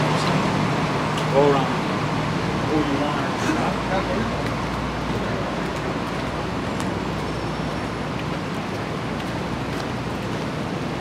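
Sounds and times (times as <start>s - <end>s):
traffic rushing: 0.0s - 11.0s.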